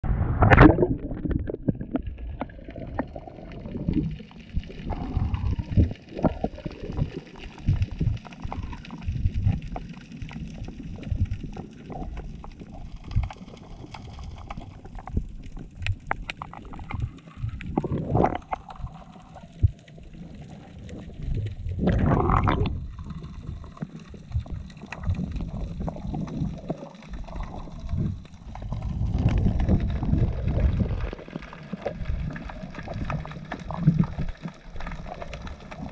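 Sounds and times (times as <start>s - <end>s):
muffled underwater rushing water: 0.0s - 35.9s
water swishes: 0.0s - 35.9s.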